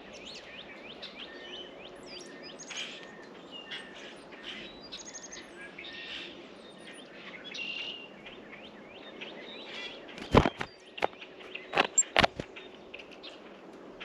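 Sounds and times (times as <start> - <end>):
songbirds chirping: 0.0 - 13.6.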